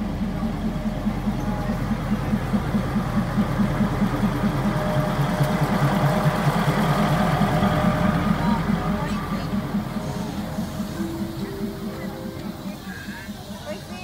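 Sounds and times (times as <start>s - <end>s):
diesel railcar engine throbbing: 0.0s - 14.0s.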